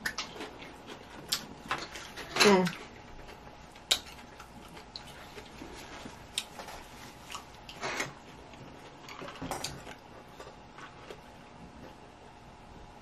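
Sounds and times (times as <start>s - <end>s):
person chewing with mouth clicks: 0.0s - 11.9s.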